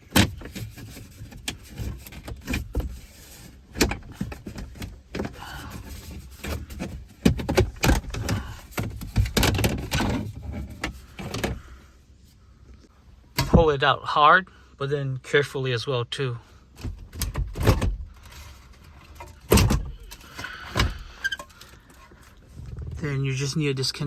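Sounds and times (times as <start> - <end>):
scraping handling noise: 0.0 - 13.6, 16.7 - 24.0.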